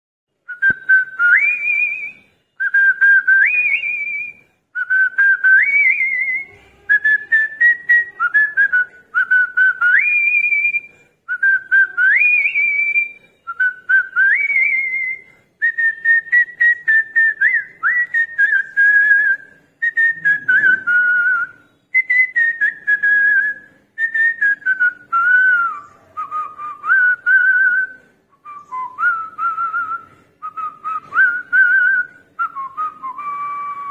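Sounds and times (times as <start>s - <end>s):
person whistling a melody: 0.5s - 33.9s.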